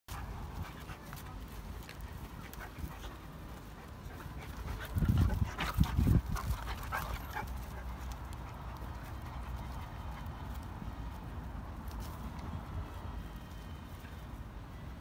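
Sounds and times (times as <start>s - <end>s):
dogs playing: 0.1s - 14.4s.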